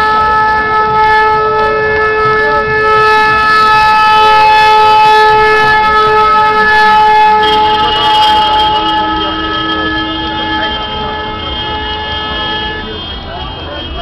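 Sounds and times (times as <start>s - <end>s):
horn long loud note: 0.0s - 14.0s.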